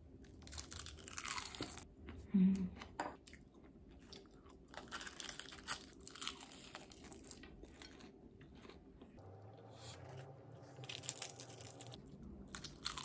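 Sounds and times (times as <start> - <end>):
crunching and chewing food: 0.0 - 2.2, 2.8 - 9.2, 9.8 - 13.0.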